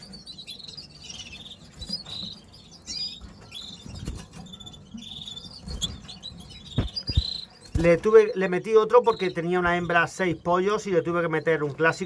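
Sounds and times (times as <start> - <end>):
canaries chirping and trilling: 0.0 - 12.0.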